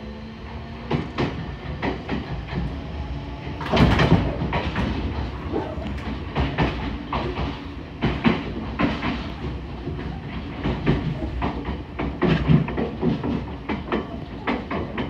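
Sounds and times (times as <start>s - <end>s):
train traction motors running: 0.0s - 15.0s
wheels clacking over rail joints: 0.8s - 15.0s.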